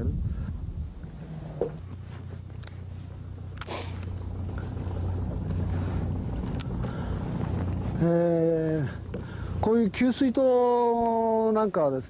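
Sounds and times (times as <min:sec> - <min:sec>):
boat motor humming: 0:00.6 - 0:11.9.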